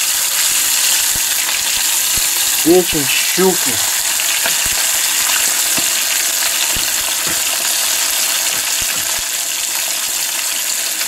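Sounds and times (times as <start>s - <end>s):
livers sizzling in hot oil: 0.0s - 11.0s
oil popping and crackling: 0.0s - 11.0s.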